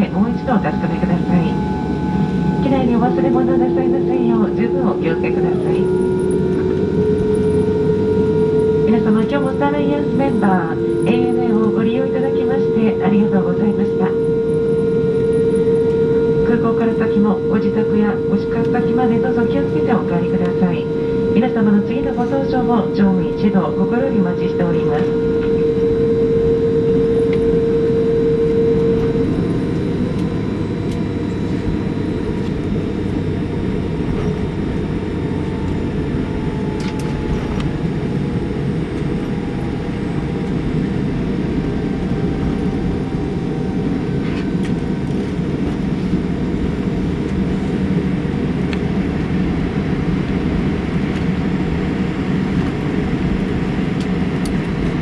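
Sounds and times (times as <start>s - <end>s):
steady tone: 0.0s - 47.2s
jet engines rumbling at taxi power: 0.0s - 55.0s.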